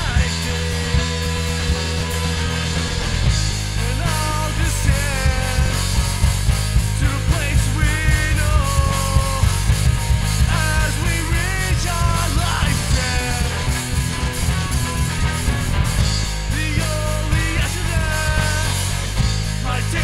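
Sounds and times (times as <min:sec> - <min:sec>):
bass guitar: 0:00.0 - 0:20.0
electric guitar: 0:00.0 - 0:20.0
steady drum beat: 0:00.0 - 0:20.0.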